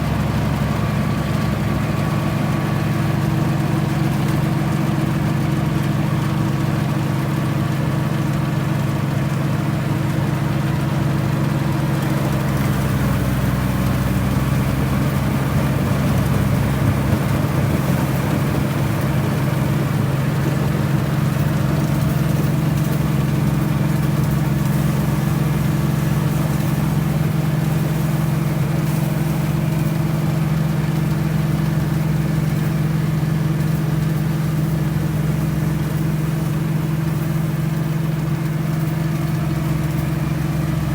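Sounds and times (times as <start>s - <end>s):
farm machine engine droning: 0.0s - 40.9s.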